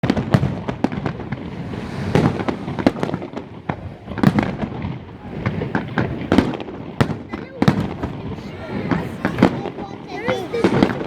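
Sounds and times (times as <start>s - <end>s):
fireworks bangs and crackles: 0.0s - 11.0s
heavy fireworks booms: 0.0s - 11.0s.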